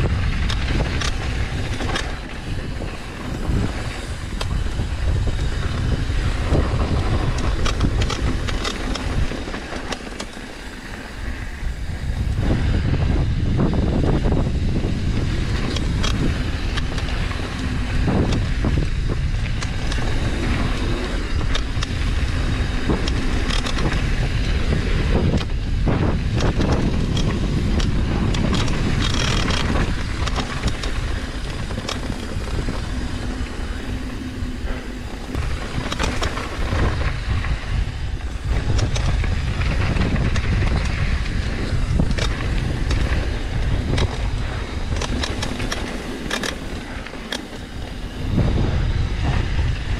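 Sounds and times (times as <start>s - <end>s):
bike tyres hissing on gravel: 0.0s - 49.9s
wind rumbling on microphone: 0.0s - 49.9s.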